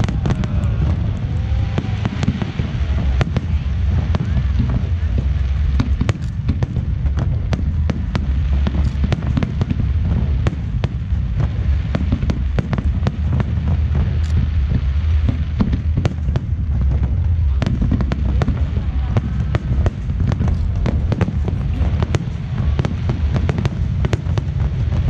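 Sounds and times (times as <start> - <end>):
fireworks booming: 0.0 - 25.0
fireworks sharp cracks: 0.0 - 25.0.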